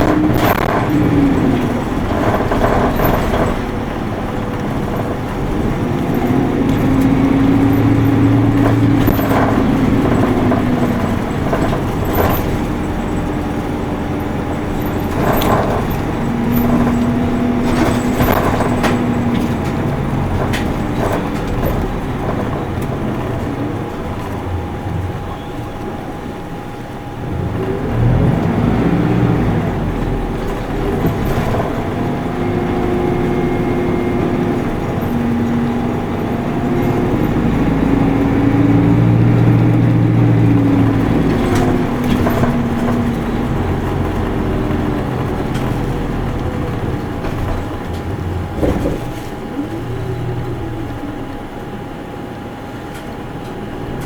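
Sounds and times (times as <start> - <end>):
bus diesel engine from inside: 0.0 - 54.0.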